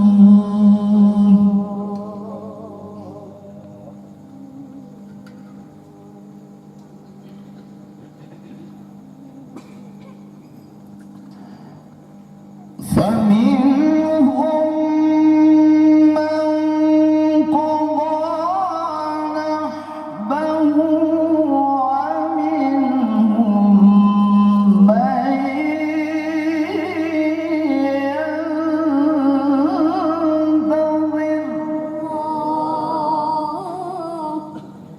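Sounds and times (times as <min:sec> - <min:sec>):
man chanting melodically: 0:00.0 - 0:06.6, 0:12.8 - 0:34.9.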